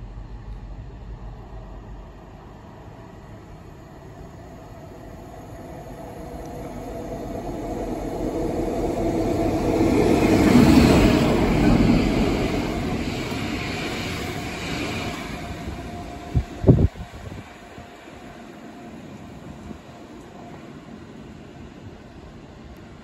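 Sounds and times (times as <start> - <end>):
diesel locomotives passing: 0.0 - 23.0.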